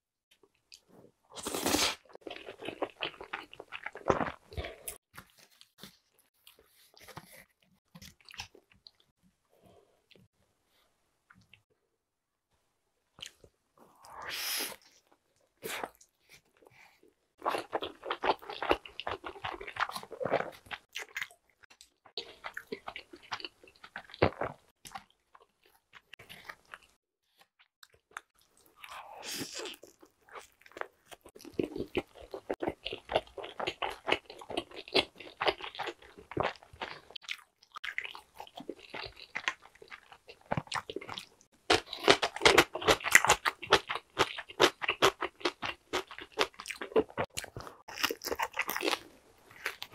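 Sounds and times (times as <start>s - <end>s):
chewing and crunching pizza: 0.8s - 9.1s, 17.4s - 27.0s, 27.6s - 49.9s.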